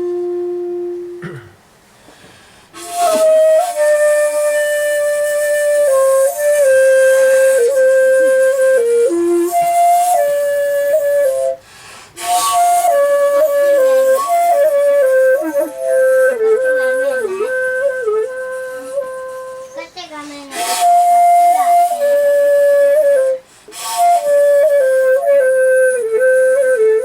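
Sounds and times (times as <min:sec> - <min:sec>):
shakuhachi slow melody: 0:00.0 - 0:01.5, 0:02.7 - 0:27.0.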